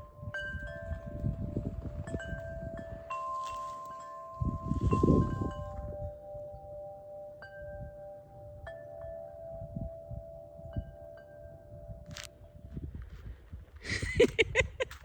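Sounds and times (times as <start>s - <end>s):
wind chimes ringing: 0.0s - 12.3s.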